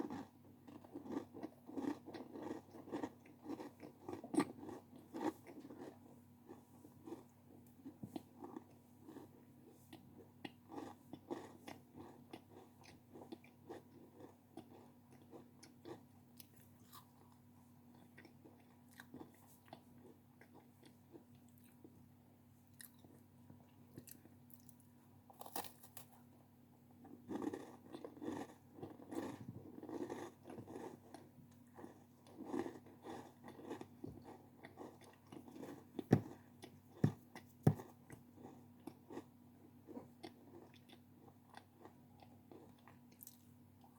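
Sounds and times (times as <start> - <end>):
chewing crunchy snacks: 0.0 - 21.9, 22.7 - 26.3, 27.0 - 43.9
faint steady hum: 0.0 - 43.9.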